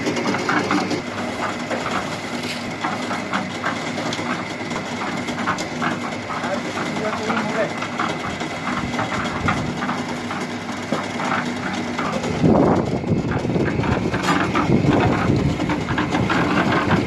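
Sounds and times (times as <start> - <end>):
concrete mixer engine running: 0.0 - 17.0
rattling and clatter: 0.0 - 17.0.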